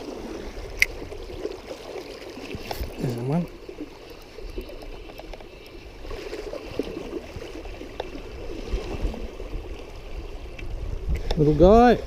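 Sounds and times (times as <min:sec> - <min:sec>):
small splashes: 0:00.0 - 0:10.0
stream water gurgling: 0:00.0 - 0:12.0.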